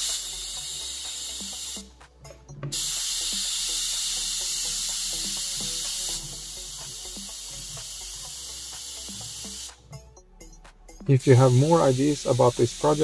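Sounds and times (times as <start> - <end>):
high hiss of corona discharge: 0.0 - 2.0, 2.7 - 9.8, 11.2 - 13.0.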